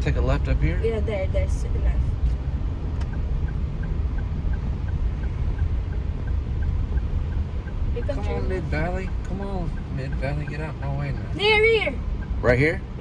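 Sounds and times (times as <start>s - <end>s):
engine and road noise: 0.0s - 13.0s
turn signal ticking: 0.0s - 13.0s.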